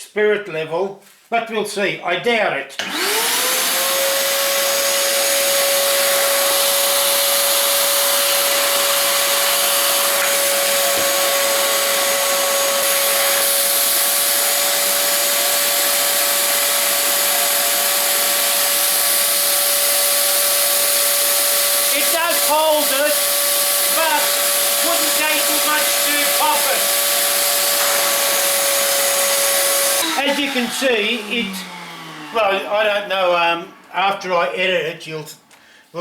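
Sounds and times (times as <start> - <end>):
shop vacuum motor whine: 2.8 - 34.8.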